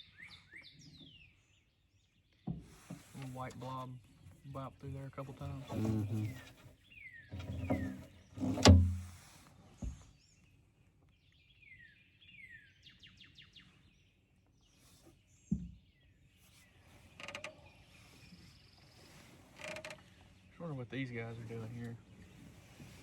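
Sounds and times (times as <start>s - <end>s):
songbird chirping: 0.0s - 9.2s, 9.8s - 23.0s.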